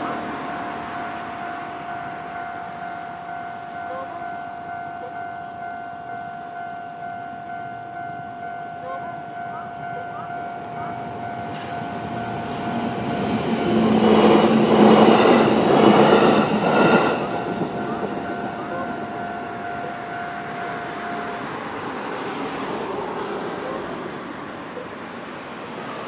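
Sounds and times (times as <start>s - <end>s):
level-crossing alarm bell: 0.0s - 23.8s
electric train passing: 0.0s - 26.0s.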